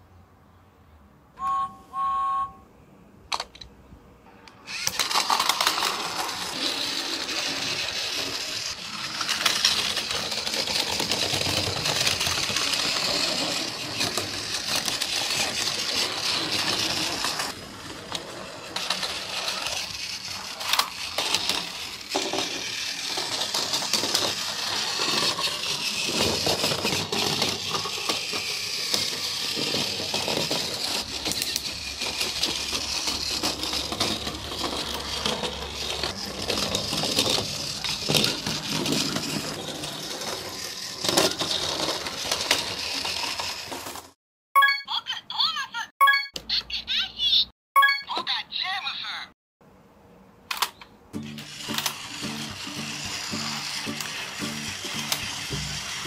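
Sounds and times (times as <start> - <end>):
toy train motor whirring: 4.6 - 44.2, 50.5 - 56.0.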